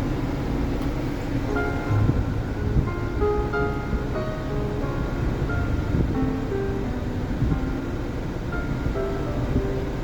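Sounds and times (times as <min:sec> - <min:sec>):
low rumbling noise: 0:00.0 - 0:10.0
music with short melodic notes: 0:01.5 - 0:10.0.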